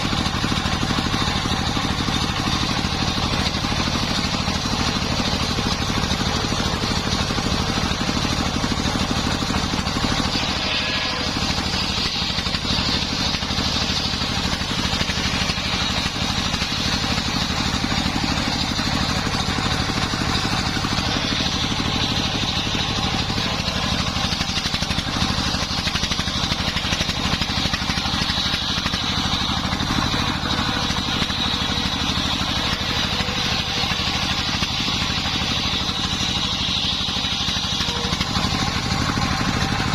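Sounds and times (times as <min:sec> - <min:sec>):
saw blade whine: 0:00.0 - 0:39.9
sawmill engine running: 0:00.0 - 0:39.9.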